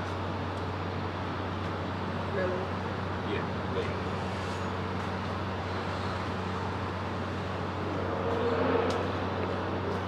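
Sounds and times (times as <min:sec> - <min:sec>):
urban street traffic: 0:00.0 - 0:10.0.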